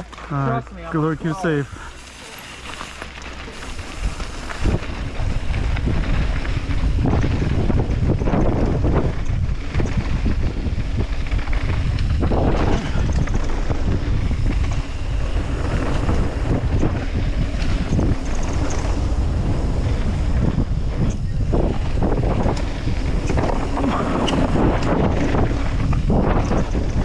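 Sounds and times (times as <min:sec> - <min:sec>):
steady low rumble: 0:00.0 - 0:27.0
wind rushing over microphone: 0:00.9 - 0:27.0
bike knocking and rattling: 0:01.8 - 0:27.0.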